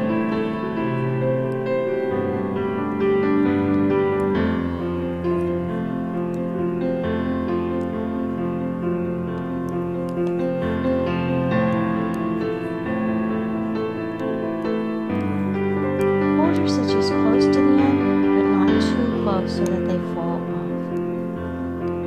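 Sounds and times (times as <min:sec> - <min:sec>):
calm piano music: 0:00.0 - 0:22.0.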